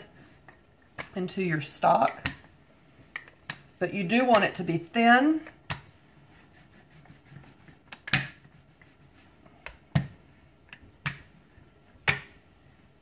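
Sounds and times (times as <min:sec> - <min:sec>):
rolling pin rubbing over dough: 0:00.0 - 0:13.0.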